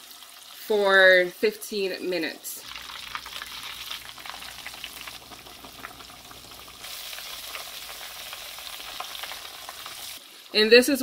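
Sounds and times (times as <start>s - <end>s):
chicken deep-frying in hot oil: 0.0s - 1.7s, 2.6s - 11.0s.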